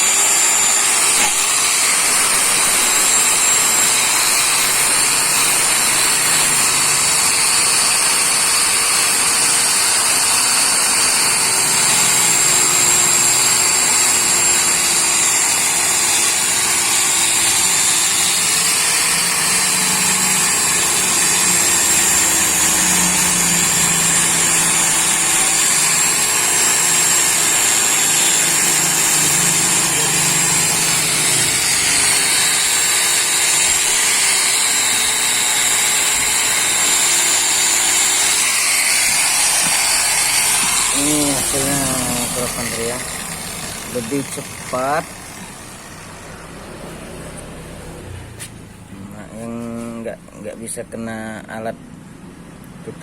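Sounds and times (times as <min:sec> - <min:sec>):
wire brush grinder scrubbing metal: 0:00.0 - 0:47.0.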